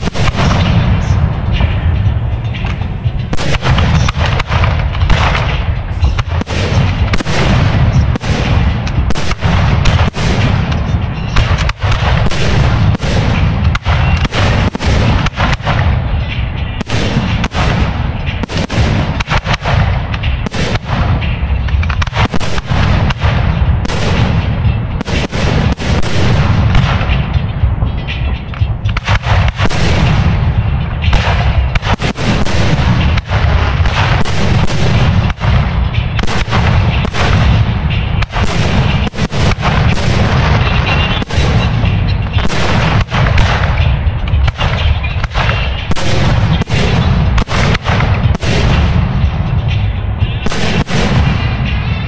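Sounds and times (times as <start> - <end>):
continuous low rumble: 0.0 - 52.0
fireworks bursting: 0.0 - 52.0.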